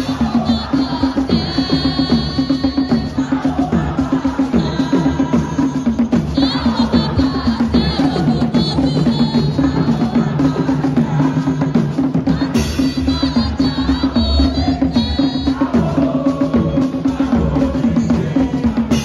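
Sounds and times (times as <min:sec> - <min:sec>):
drum-led dance music: 0:00.0 - 0:19.0.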